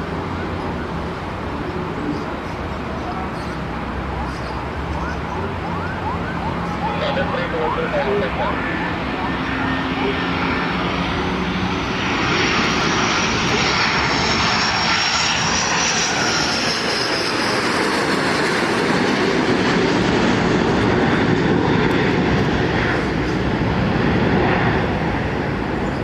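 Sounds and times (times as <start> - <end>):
jet aircraft roar and whine: 0.0 - 26.0.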